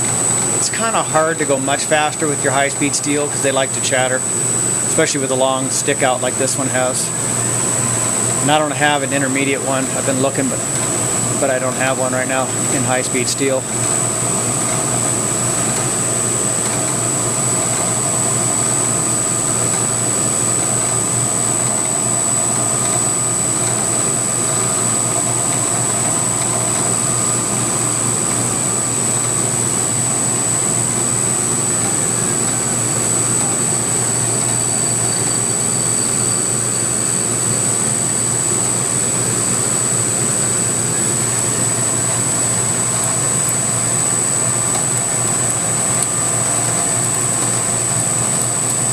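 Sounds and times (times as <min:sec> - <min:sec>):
high-pitched cutting whine: 0:00.0 - 0:48.9
milling machine hum: 0:00.0 - 0:48.9.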